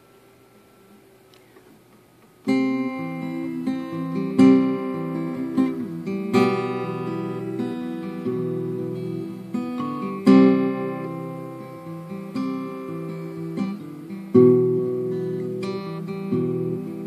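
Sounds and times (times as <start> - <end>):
guitar chords ringing: 2.4 - 17.0.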